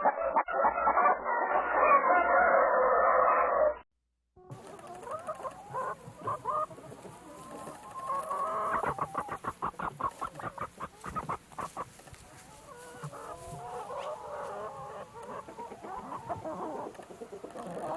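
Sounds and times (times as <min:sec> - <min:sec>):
chickens clucking: 0:00.0 - 0:03.6, 0:04.4 - 0:17.9.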